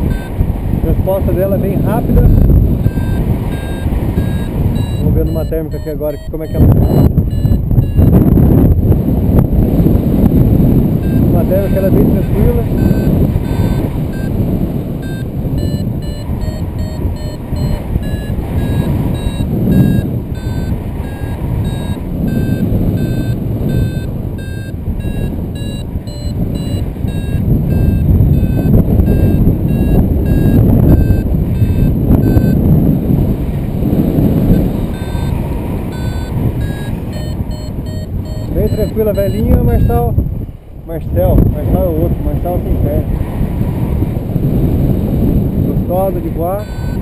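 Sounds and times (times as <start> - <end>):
variometer beeping: 0.0 - 8.8, 10.3 - 33.2, 34.0 - 40.2, 46.4 - 47.0
wind rushing over microphone: 0.0 - 47.0.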